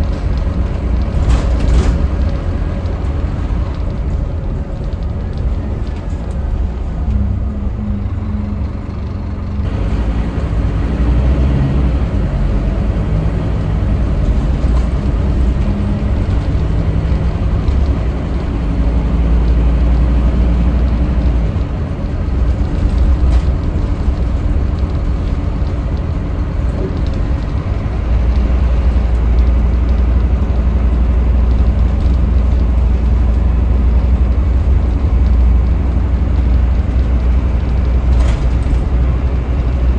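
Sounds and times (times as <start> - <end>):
bus diesel engine: 0.0 - 39.9
low road rumble: 0.0 - 39.9.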